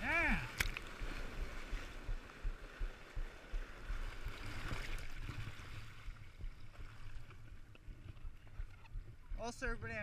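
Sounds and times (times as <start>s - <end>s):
water buffeting microphone: 0.0s - 10.0s.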